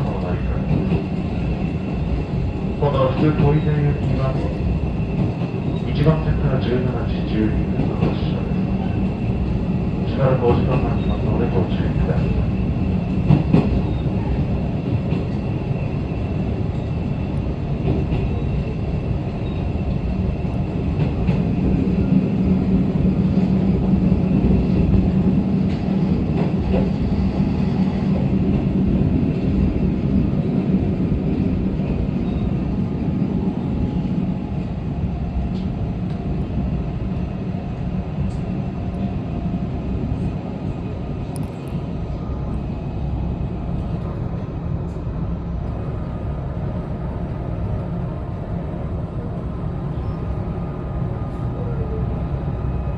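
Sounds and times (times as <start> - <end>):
diesel railcar engine drone: 0.0 - 52.9.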